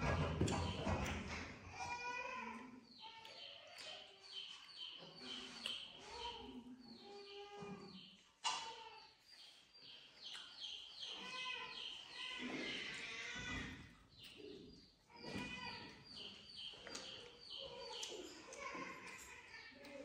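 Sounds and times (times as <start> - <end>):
small birds chirping: 0.0 - 1.4, 2.3 - 20.0.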